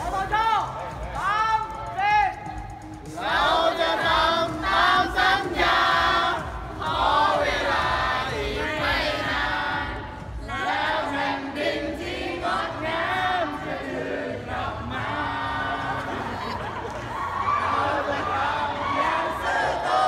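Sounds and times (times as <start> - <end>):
choir singing a cheer song: 2.8 - 20.0.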